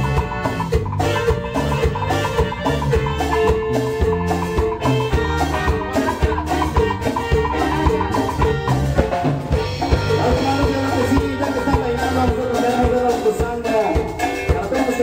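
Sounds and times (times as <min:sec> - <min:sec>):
bass line: 0:00.0 - 0:15.0
drums steady beat: 0:00.0 - 0:15.0
keyboard melody: 0:00.0 - 0:15.0.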